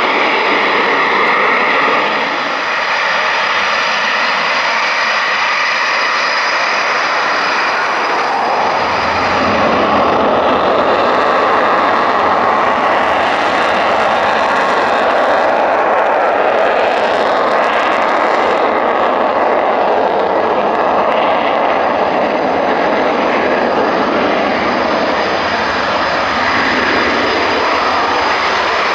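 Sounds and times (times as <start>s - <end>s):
jet noise rushing: 0.0s - 16.4s, 17.1s - 28.9s
jet engine whine: 0.0s - 28.9s.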